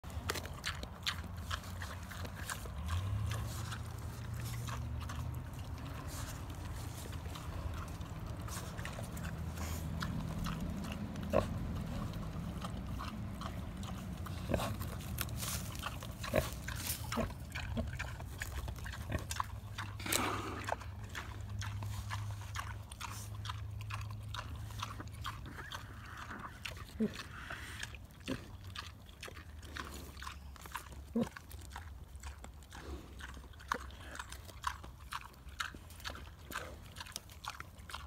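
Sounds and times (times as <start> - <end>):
boar chewing pumpkin: 0.0 - 38.0.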